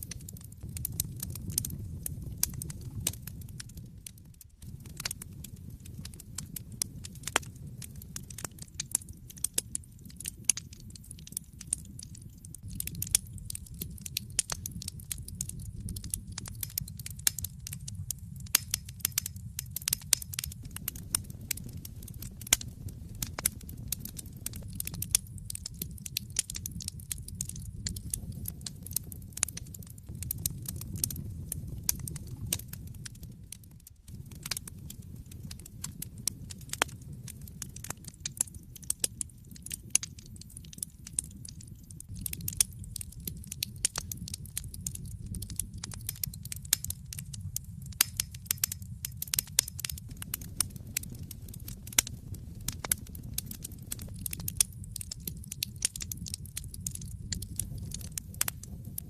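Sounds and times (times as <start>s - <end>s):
burning logs crackling and popping: 0.0s - 59.0s
low rumble of flames: 0.0s - 59.0s.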